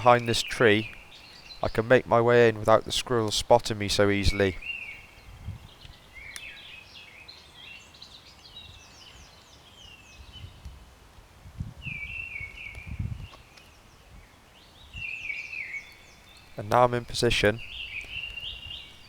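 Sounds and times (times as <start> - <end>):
birdsong chirps and whistles: 0.0 - 10.8, 11.8 - 19.0.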